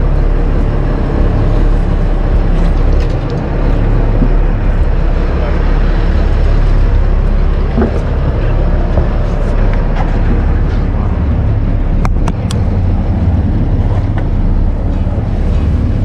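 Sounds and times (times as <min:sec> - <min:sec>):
boat engine rumbling: 0:00.0 - 0:16.0
water noise: 0:00.0 - 0:16.0
wind: 0:00.0 - 0:16.0.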